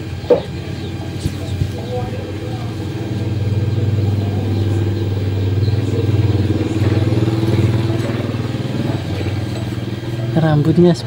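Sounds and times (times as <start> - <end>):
small engine humming: 0.0 - 11.0.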